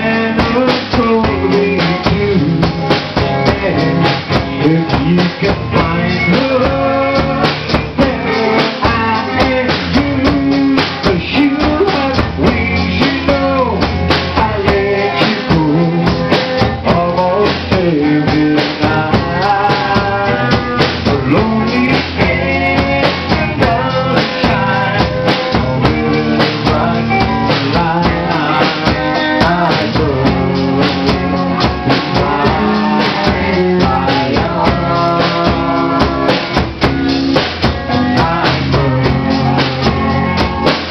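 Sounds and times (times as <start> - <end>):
bass: 0.0 - 40.9
drum kit: 0.0 - 40.9
guitar: 0.0 - 40.9
melodic lead line: 0.0 - 40.9.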